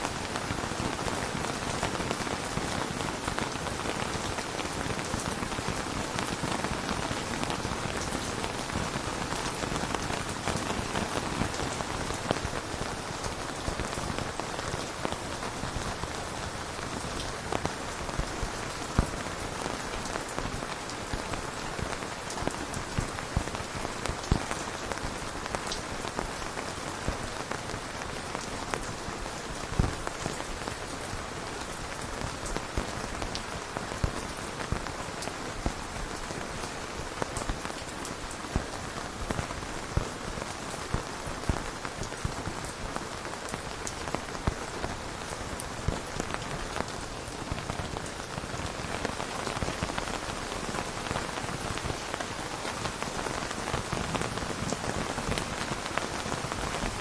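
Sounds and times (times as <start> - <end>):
steady rain: 0.0 - 57.0
raindrops tapping: 0.1 - 57.0.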